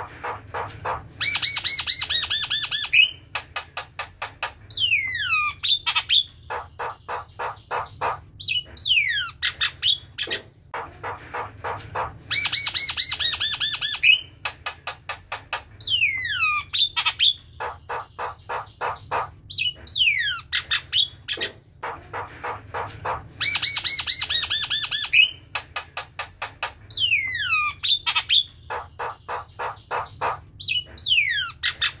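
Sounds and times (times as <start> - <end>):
myna bird chattering song: 0.0 - 32.0.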